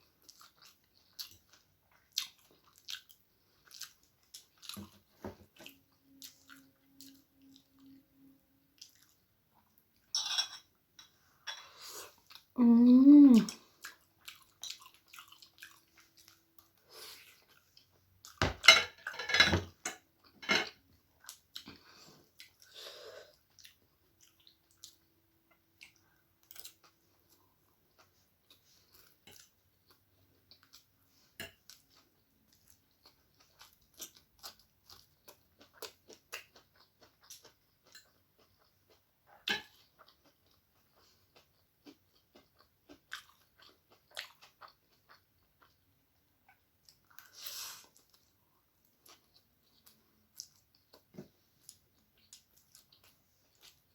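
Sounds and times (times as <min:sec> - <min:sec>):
person chewing noodles: 0:00.0 - 0:10.1, 0:11.8 - 0:18.4, 0:20.2 - 0:53.9.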